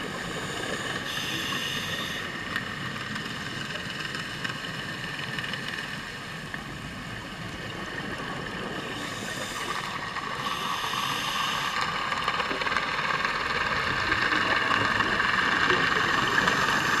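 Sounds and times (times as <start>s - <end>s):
boat engine whine underwater: 0.0s - 17.0s.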